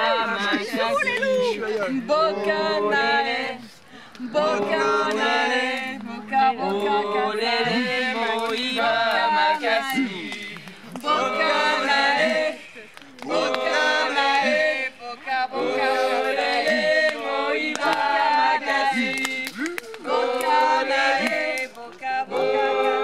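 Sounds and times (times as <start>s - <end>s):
group singing without instruments: 0.0s - 23.0s.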